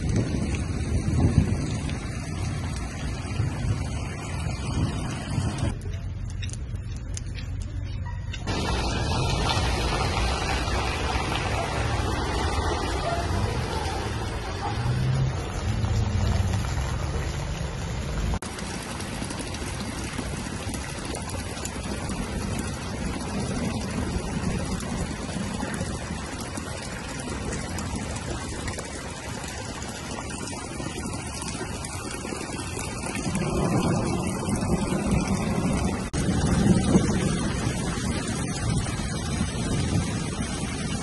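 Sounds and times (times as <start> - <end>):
car moving through floodwater: 0.0 - 7.0, 8.5 - 41.0
heavy rain on standing water: 0.0 - 7.8, 8.4 - 41.0.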